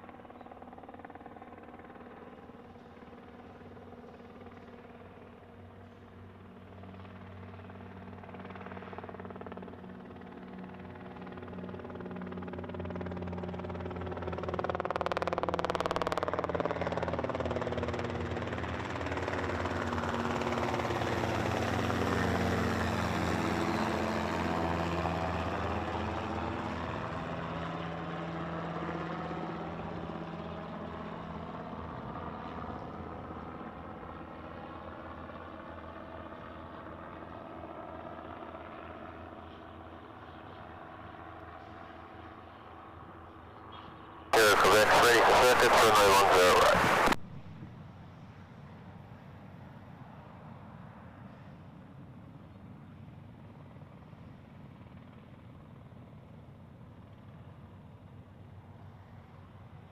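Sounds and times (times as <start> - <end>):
aircraft passing overhead: 0.0 - 59.9.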